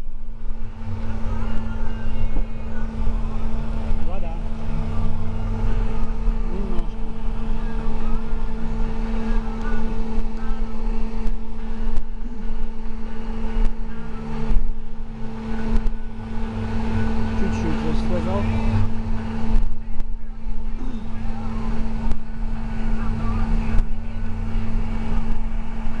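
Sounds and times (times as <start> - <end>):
bus engine drone: 0.0 - 26.0
road rumble: 0.0 - 26.0.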